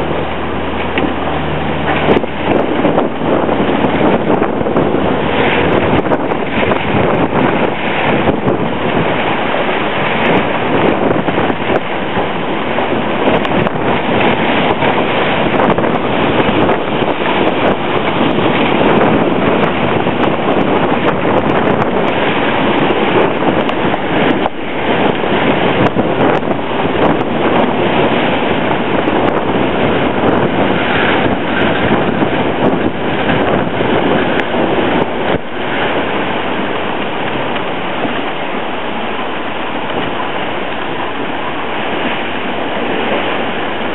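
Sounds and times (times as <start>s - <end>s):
heavy rain: 0.0s - 43.9s
hurricane wind: 0.0s - 43.9s
wind buffeting microphone: 0.0s - 43.9s.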